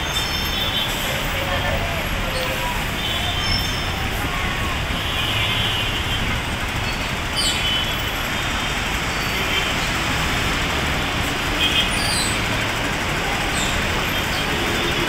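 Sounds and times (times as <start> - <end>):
city traffic: 0.0 - 15.0
heavy truck pulling across: 0.0 - 15.0.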